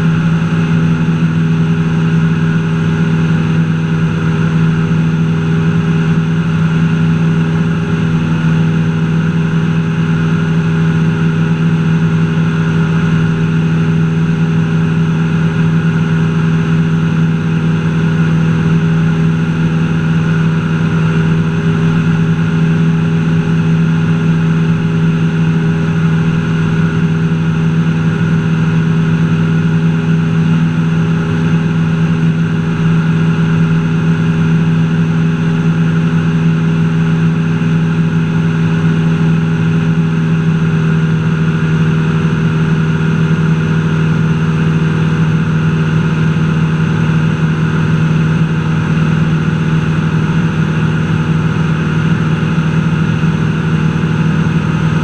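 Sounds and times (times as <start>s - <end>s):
propeller plane engine from cabin: 0.0s - 55.0s.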